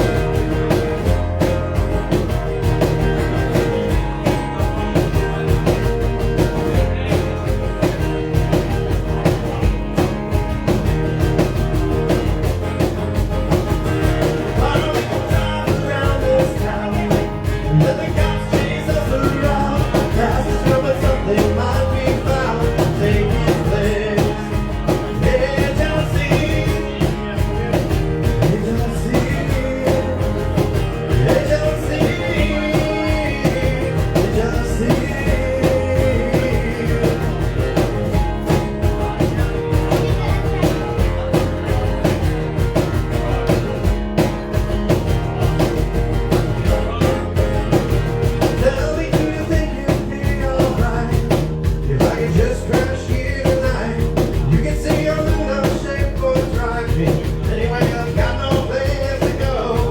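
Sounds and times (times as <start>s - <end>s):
bass guitar: 0.0s - 59.9s
drum kit: 0.0s - 59.9s
electric guitars: 0.0s - 59.9s.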